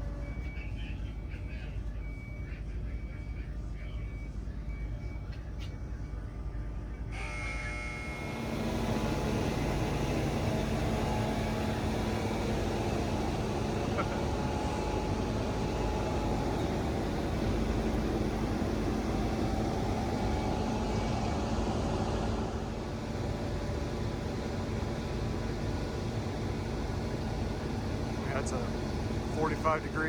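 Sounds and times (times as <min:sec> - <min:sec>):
truck dumper machinery drone: 0:00.0 - 0:30.0.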